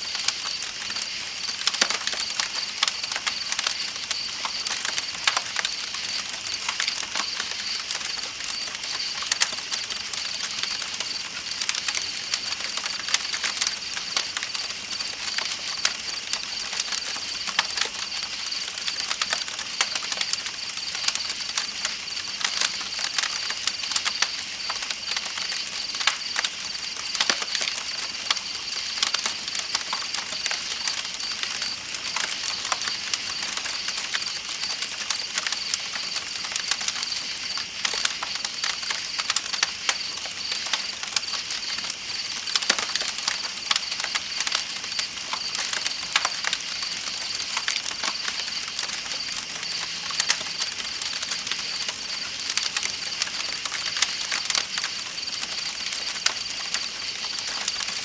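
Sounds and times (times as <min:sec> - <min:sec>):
night insects chirring: 0:00.0 - 0:58.0
campfire crackling and popping: 0:00.1 - 0:58.0.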